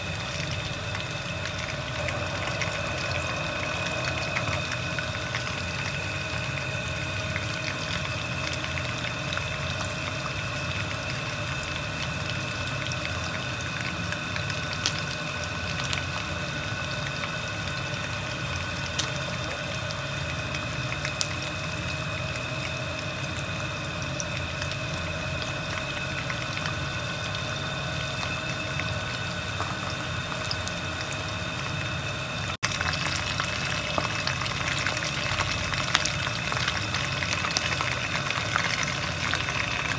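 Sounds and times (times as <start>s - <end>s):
hot oil sizzling and bubbling: 0.0s - 39.9s
oil crackles and pops: 0.0s - 39.9s
steady hum with high whine: 0.0s - 39.9s.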